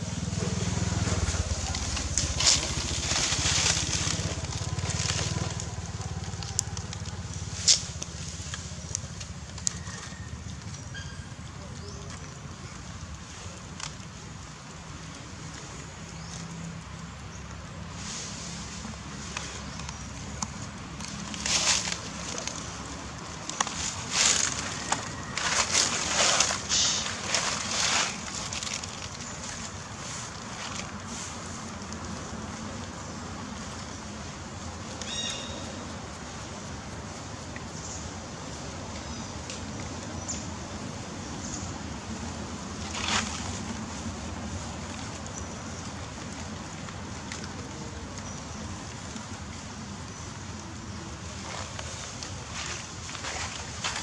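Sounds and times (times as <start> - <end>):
dry leaves rustling and crackling: 0.0 - 54.0.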